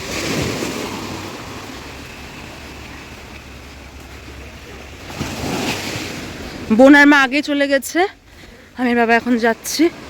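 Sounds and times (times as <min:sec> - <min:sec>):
sea surf roaring on beach: 0:00.0 - 0:07.5, 0:08.2 - 0:10.0.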